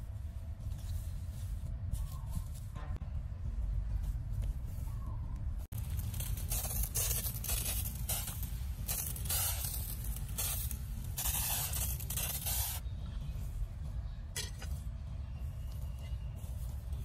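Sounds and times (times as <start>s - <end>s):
dry grass rustling: 0.0s - 13.8s, 14.4s - 17.0s
steady low rumble: 0.0s - 17.0s.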